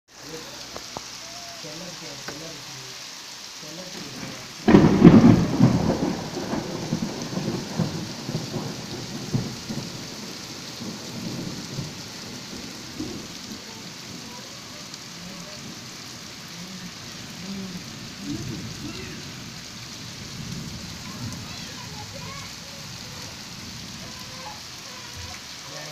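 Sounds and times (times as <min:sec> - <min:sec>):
steady rain falling: 0:00.1 - 0:25.9
thunderclap rumbling: 0:04.0 - 0:25.3.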